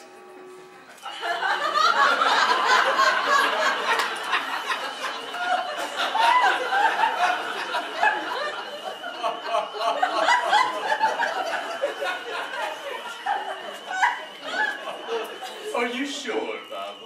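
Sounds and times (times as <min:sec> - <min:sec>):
audience laughing: 0:00.0 - 0:17.0.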